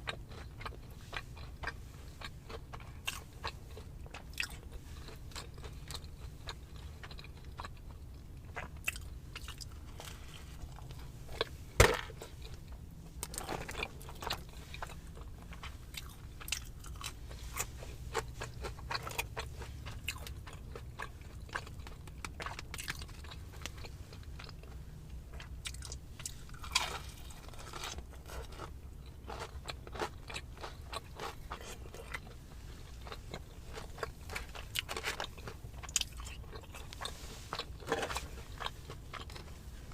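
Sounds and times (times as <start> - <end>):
steady low hum: 0.0 - 39.9
wet chewing: 0.0 - 39.9.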